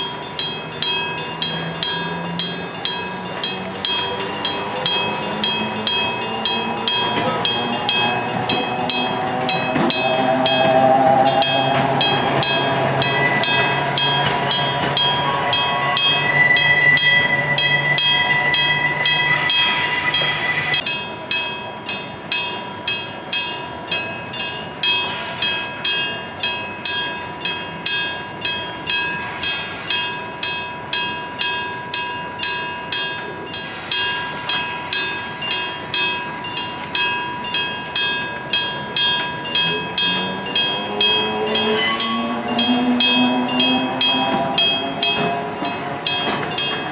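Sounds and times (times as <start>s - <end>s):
electric level-crossing bell: 0.0s - 46.9s
train running with motor hum: 0.0s - 46.9s.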